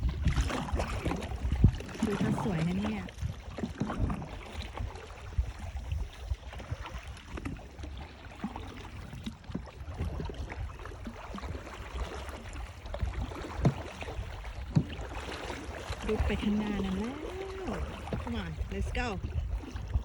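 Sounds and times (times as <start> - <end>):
water splashing around canoe: 0.0 - 20.0.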